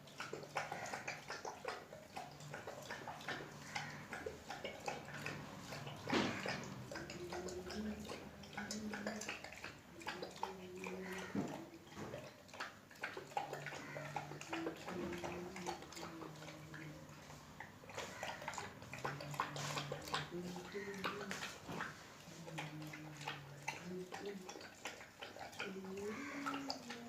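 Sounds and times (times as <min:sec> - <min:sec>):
dog eating wet smacks: 0:00.0 - 0:27.0.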